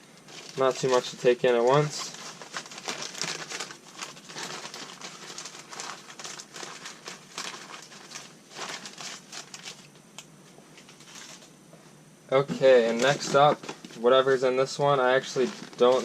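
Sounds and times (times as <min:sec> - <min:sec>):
packaging crinkling and rustling: 0:00.2 - 0:10.0, 0:10.7 - 0:11.5, 0:12.7 - 0:14.0, 0:15.2 - 0:16.0.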